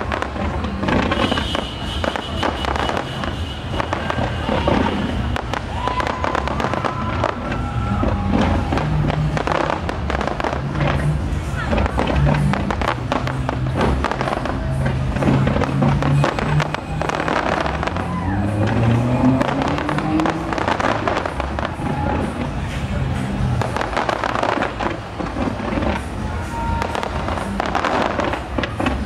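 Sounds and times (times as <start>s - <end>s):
fireworks bursting and crackling: 0.0s - 29.0s
music playing: 0.0s - 29.0s.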